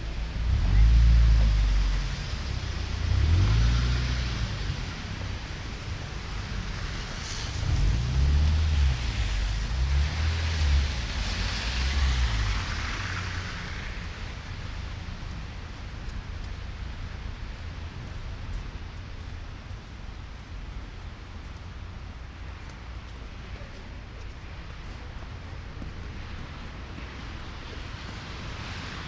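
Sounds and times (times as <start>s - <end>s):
cars passing on snowy road: 0.0s - 29.0s
low uneven rumble: 0.0s - 29.0s.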